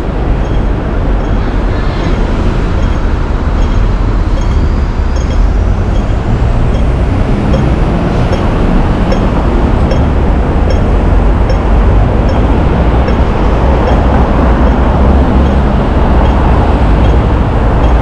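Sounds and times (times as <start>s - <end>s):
crossing signal ticking: 0.0s - 18.0s
road traffic rumble: 0.0s - 18.0s.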